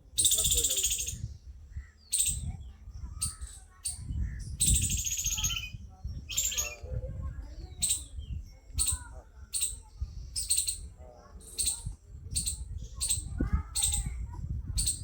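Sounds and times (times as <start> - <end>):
bird chirping: 0.0 - 14.2
distant wavering voices: 0.0 - 15.0
wind on microphone: 0.0 - 15.0.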